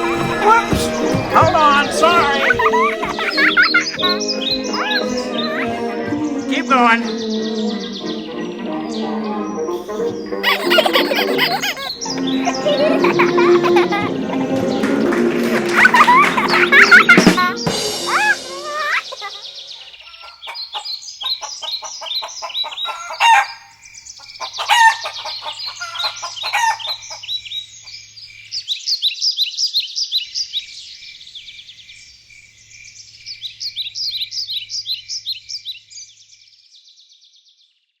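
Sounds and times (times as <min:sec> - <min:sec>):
birds chirping and trilling: 0:00.0 - 0:38.0.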